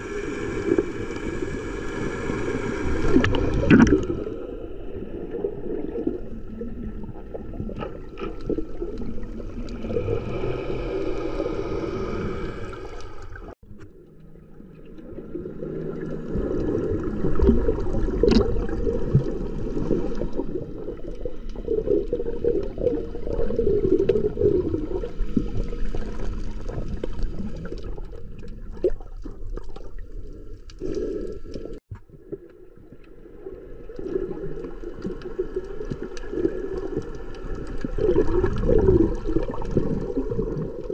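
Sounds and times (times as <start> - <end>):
underwater sloshing and gurgling: 0.0 - 40.9.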